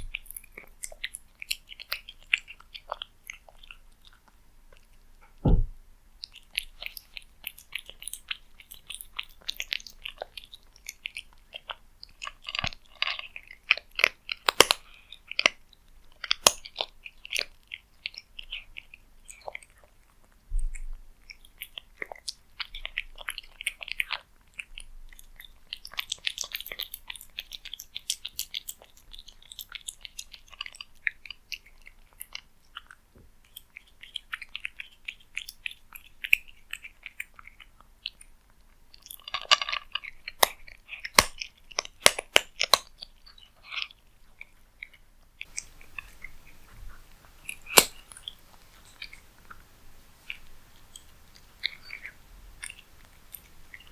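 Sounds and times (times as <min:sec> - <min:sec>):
cat crunching food: 0:00.0 - 0:05.1, 0:06.2 - 0:20.4, 0:21.2 - 0:53.9.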